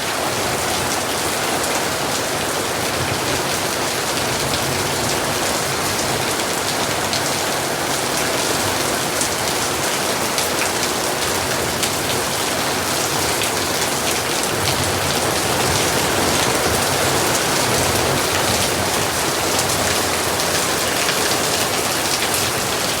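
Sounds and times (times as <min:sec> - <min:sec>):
heavy rain on hard surfaces: 0:00.0 - 0:23.0.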